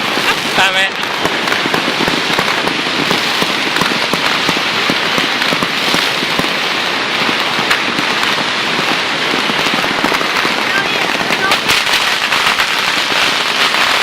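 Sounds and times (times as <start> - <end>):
firecrackers crackling: 0.0 - 14.0
sharp firework bangs: 0.0 - 14.0.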